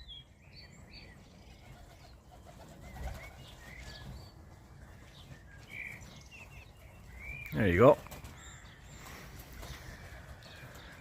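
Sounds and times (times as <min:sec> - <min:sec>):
songbirds chirping faintly: 0:00.0 - 0:11.0.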